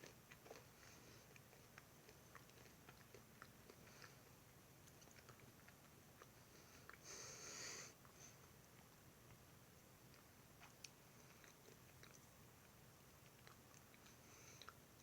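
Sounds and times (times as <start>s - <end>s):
faint crunchy chewing: 0.0s - 15.0s.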